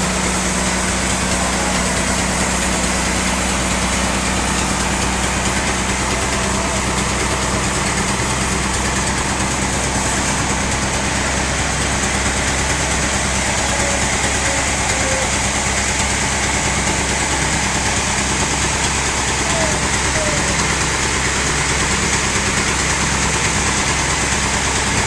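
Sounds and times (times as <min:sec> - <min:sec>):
sawmill machinery drone: 0:00.0 - 0:25.0.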